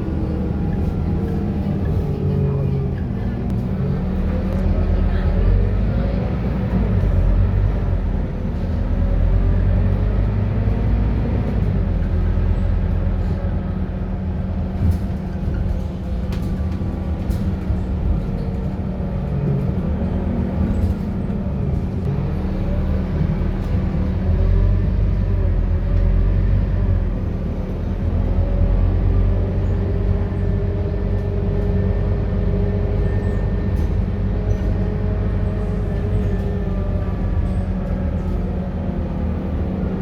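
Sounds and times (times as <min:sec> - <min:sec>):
bus diesel engine running: 0:00.0 - 0:40.0.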